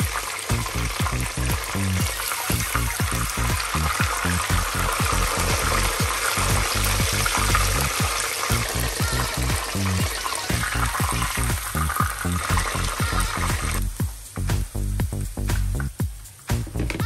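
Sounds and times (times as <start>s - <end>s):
food sizzling in hot oil: 0.0s - 16.8s.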